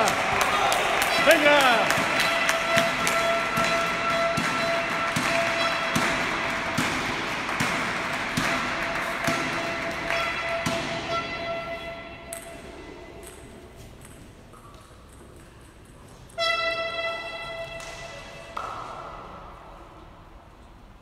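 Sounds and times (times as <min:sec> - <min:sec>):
table tennis ball bouncing: 0:01.1 - 0:19.6.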